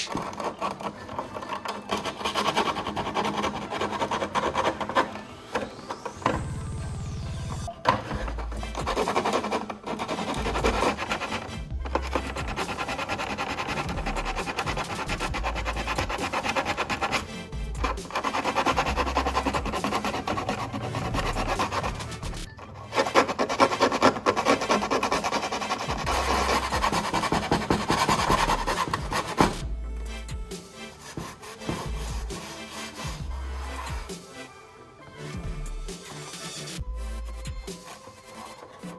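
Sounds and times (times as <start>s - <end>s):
sandpaper rubbing on plastic: 0.0s - 6.9s, 7.6s - 34.5s, 35.6s - 38.9s
background music: 0.0s - 38.9s.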